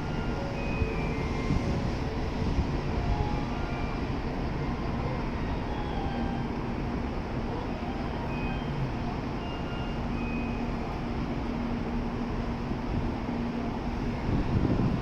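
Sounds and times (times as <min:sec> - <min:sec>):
platform rumble and low hum: 0:00.0 - 0:15.0.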